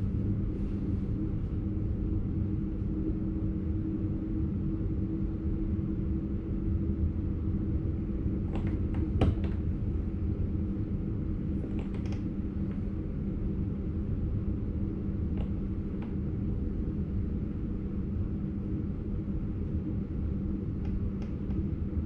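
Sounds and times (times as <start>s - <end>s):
train rumble and hum: 0.0s - 22.0s.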